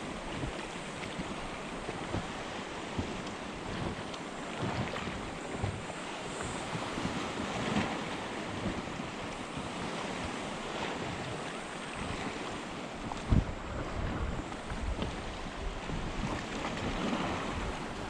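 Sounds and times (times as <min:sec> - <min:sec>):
surf: 0:00.0 - 0:18.0
wind buffeting microphone: 0:00.0 - 0:18.0.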